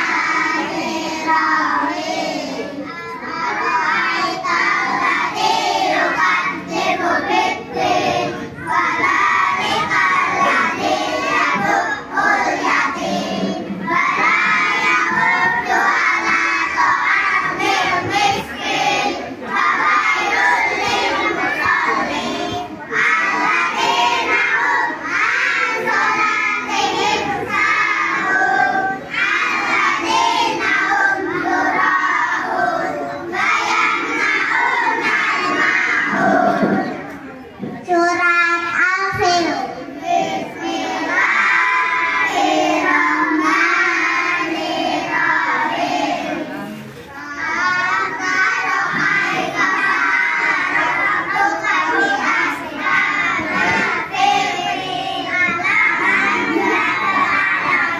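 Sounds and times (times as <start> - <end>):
children singing into a microphone: 0.0 - 57.9.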